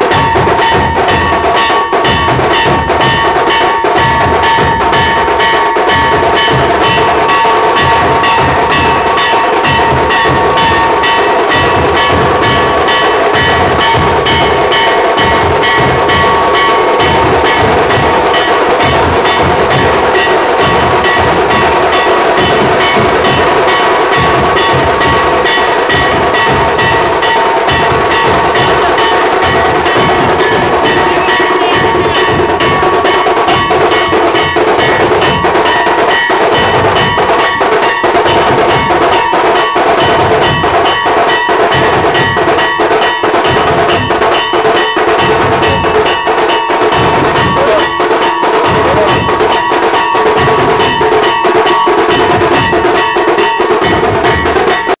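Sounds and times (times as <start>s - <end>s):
metallic ringing: 0.0s - 55.0s
street drums beating fast: 0.0s - 55.0s.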